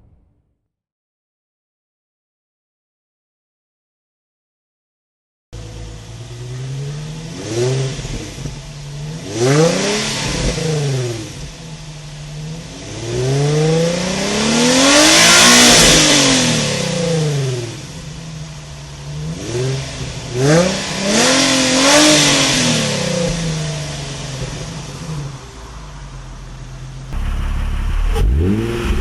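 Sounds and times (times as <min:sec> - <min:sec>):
car engine idling and revving: 0:05.6 - 0:29.0.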